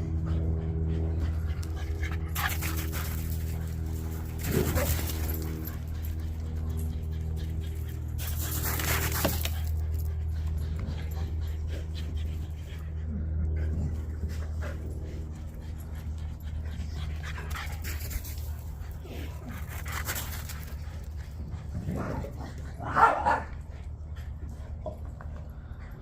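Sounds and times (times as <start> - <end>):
dog panting: 0.0 - 22.7
steady low hum: 0.0 - 26.0.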